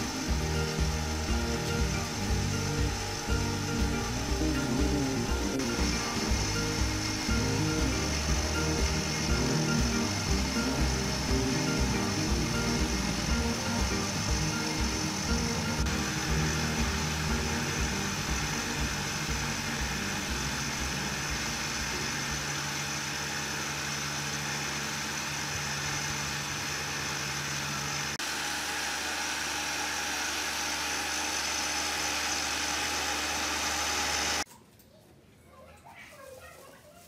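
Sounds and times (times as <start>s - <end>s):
electric water pump humming: 0.0s - 34.5s.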